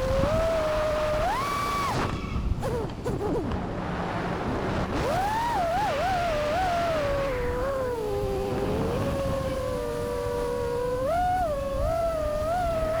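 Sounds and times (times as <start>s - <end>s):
quadcopter motors whining: 0.0s - 3.6s, 4.8s - 13.0s
wind rush: 1.8s - 13.0s.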